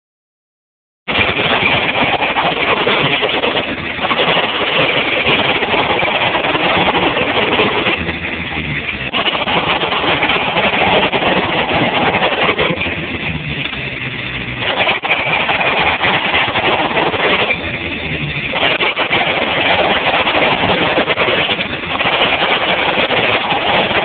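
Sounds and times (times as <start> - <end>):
jackhammer pounding: 1.1 - 24.0.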